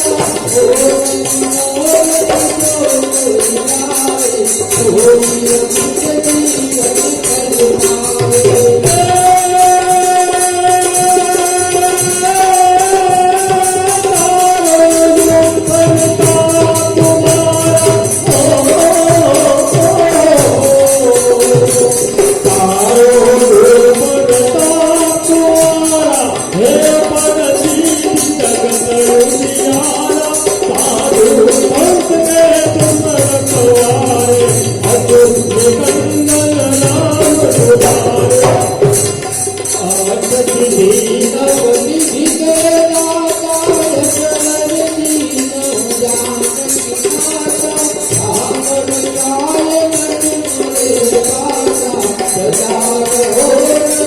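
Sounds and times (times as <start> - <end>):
jingling hand percussion: 0.0 - 54.0.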